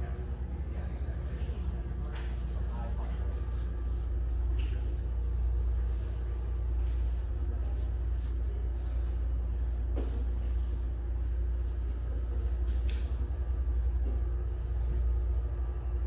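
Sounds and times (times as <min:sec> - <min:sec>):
faint steady hum: 0:00.0 - 0:16.0
low room rumble: 0:00.0 - 0:16.0.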